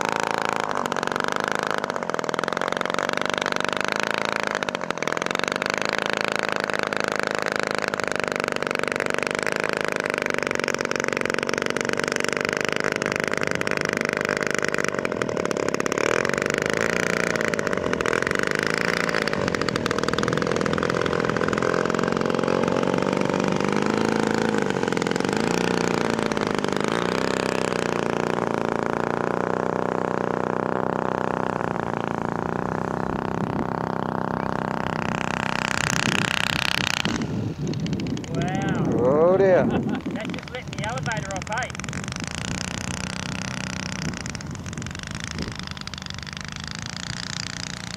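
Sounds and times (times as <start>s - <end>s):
model plane engine running: 0.0s - 47.9s.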